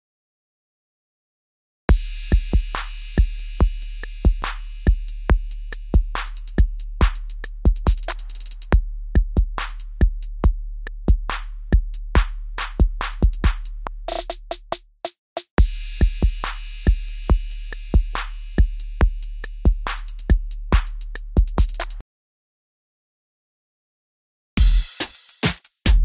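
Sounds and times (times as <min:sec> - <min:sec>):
drum machine beat: 0:01.9 - 0:22.0, 0:24.6 - 0:26.0.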